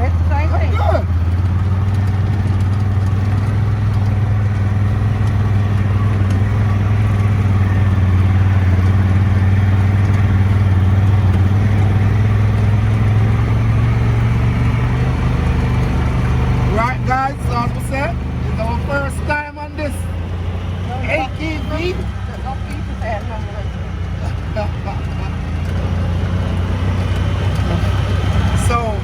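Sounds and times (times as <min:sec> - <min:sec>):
dune buggy engine running: 0:00.0 - 0:29.0.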